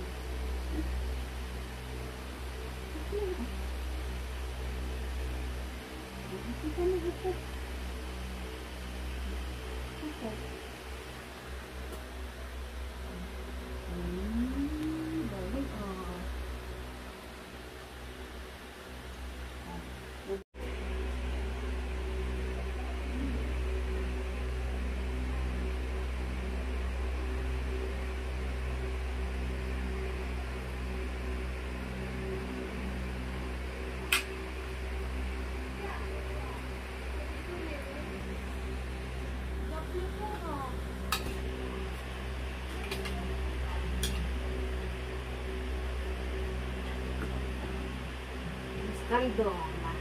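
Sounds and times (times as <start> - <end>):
low machine hum: 0.0 - 50.0.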